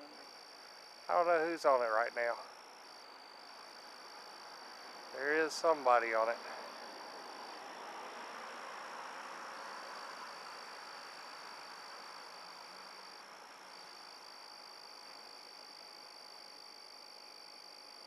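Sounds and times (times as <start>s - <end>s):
frogs and insects calling: 0.0s - 18.0s
high-pitched insect trill: 0.0s - 18.0s.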